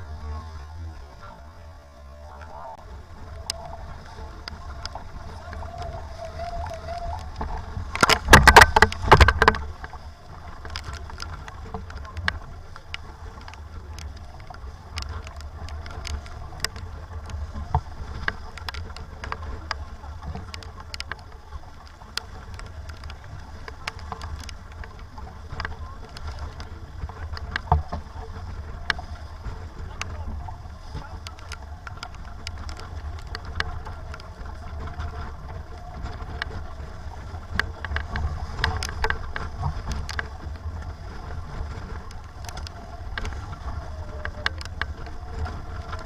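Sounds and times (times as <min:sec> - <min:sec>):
water noise: 0:00.0 - 0:46.0
wind rumble: 0:00.0 - 0:46.0.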